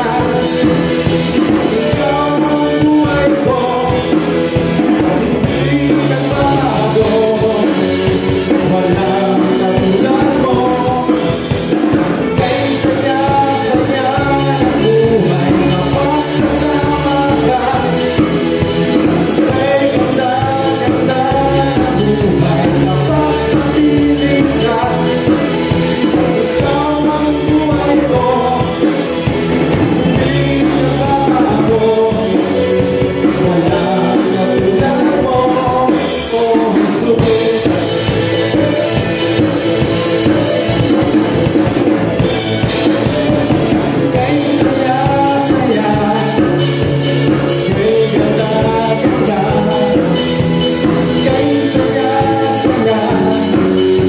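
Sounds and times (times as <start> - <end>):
bass guitar: 0.0 - 54.0
electric guitar: 0.0 - 54.0
keyboard synth playing: 0.0 - 54.0
man singing: 0.0 - 54.0.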